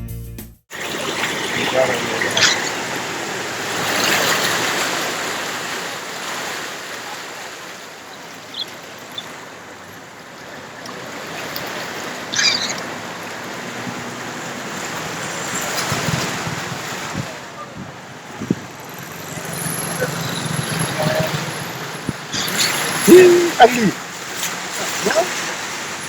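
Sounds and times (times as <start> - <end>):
rushing floodwater: 0.7 - 26.0.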